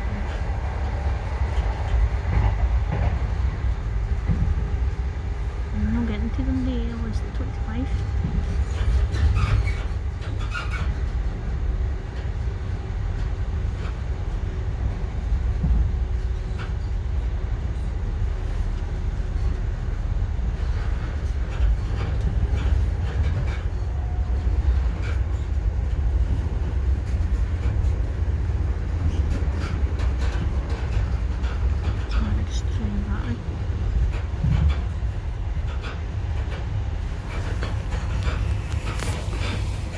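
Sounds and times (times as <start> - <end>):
train rumbling on board: 0.0 - 39.9.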